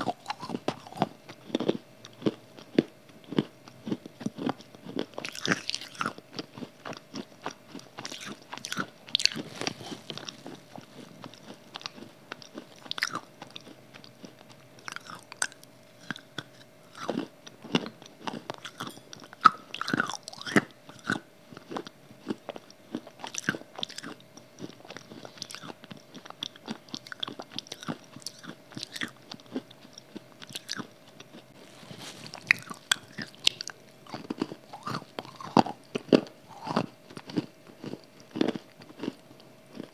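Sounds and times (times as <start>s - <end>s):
crunching and chewing clay: 0.0s - 39.9s.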